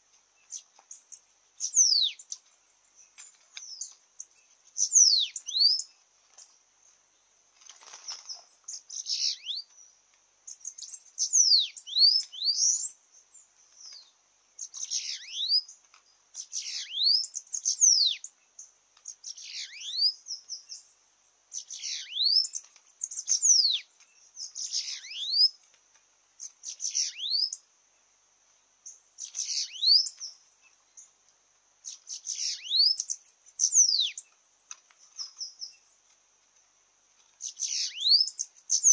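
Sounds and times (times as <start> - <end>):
steady high hiss: 0.0 - 38.9
birds singing high thin notes: 0.4 - 7.3, 8.0 - 25.7, 26.4 - 31.2, 31.8 - 34.4, 37.4 - 38.9.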